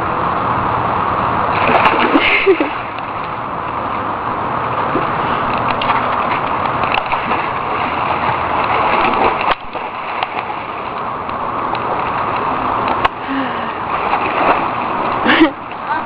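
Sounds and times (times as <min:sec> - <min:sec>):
water splashing in pool: 0:01.4 - 0:04.1, 0:04.8 - 0:16.0.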